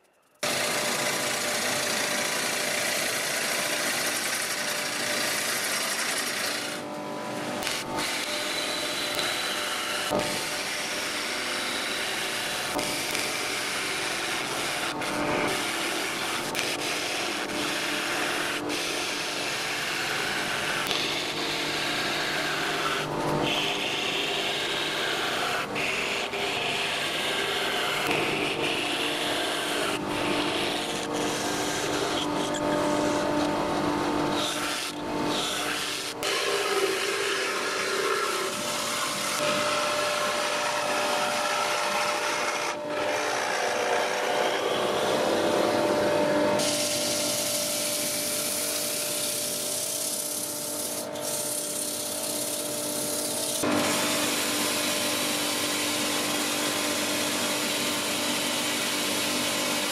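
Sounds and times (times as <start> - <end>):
gouge shaving wood on lathe: 0.4 - 33.4, 34.3 - 59.9
lathe motor humming: 0.4 - 59.9.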